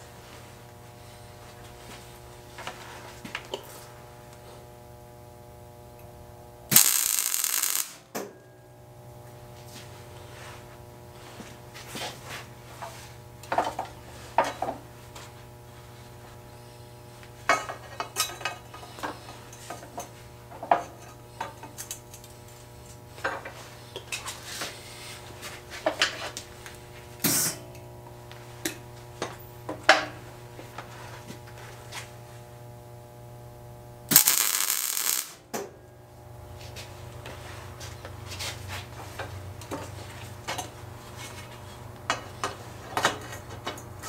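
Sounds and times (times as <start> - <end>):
steady hum: 0.0 - 39.7.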